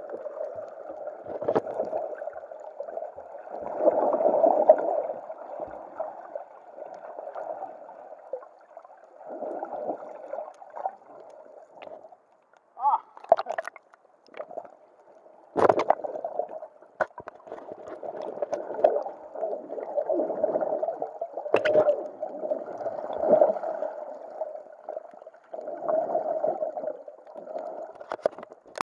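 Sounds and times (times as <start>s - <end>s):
underwater gurgling and bubbling: 0.0s - 12.0s, 13.2s - 14.7s, 15.6s - 28.8s.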